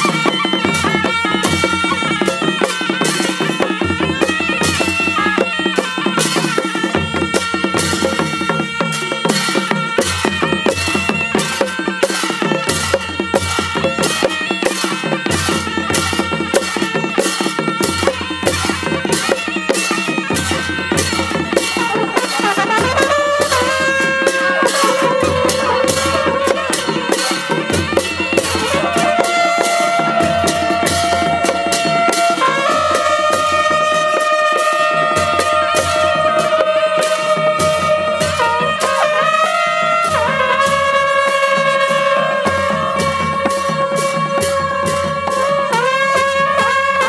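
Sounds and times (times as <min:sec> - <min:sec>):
fast percussion beat: 0:00.0 - 0:47.0.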